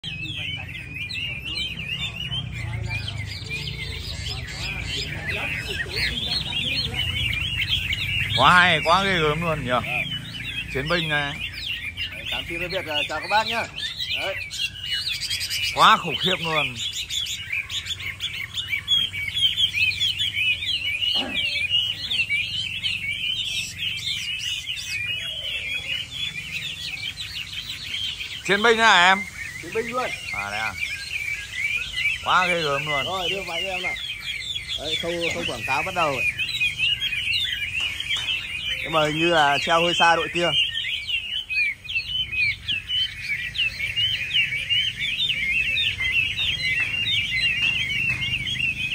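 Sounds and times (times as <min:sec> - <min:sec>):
hwamei singing whistled phrases: 0:00.0 - 0:48.9.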